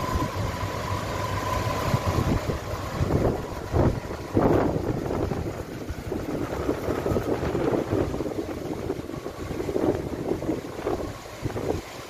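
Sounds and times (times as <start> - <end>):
car engine idling: 0.0 - 12.0
wind buffeting microphone: 1.5 - 12.0.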